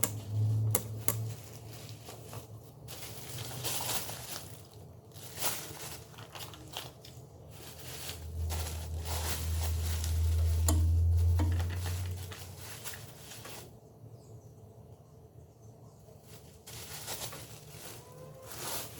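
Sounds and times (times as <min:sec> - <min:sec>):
packaging rustling and crinkling: 0:00.2 - 0:13.8, 0:16.2 - 0:18.9.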